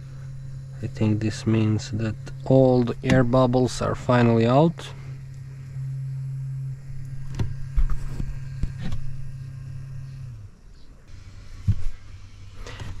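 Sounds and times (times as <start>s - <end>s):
electric pump humming: 0.0s - 13.0s.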